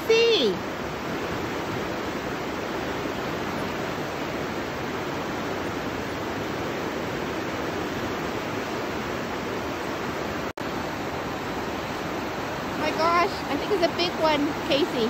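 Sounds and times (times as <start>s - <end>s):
river rapids rushing over boulders: 0.0s - 15.0s.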